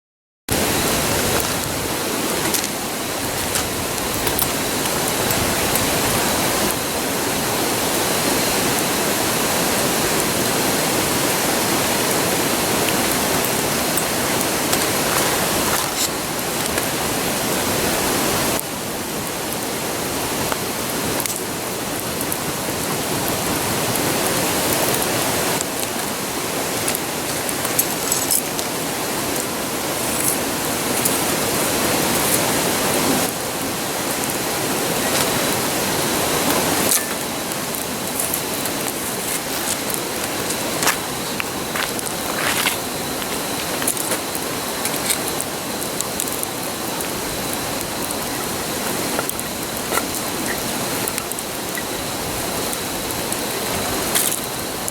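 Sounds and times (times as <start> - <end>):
campfire crackling: 0.5 - 54.9
river rushing: 0.5 - 54.9.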